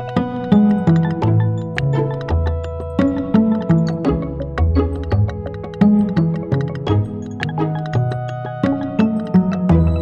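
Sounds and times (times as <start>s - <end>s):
held keyboard notes: 0.0s - 10.0s
light percussion ticks: 0.0s - 10.0s.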